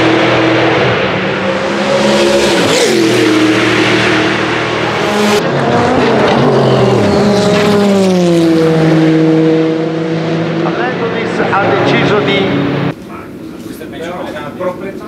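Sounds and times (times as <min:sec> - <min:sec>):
race car passing at speed: 0:00.0 - 0:13.0.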